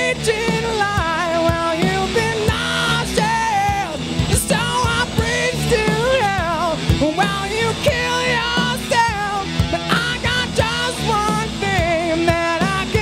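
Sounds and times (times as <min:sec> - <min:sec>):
man singing: 0:00.0 - 0:13.0
rock band playing: 0:00.0 - 0:13.0.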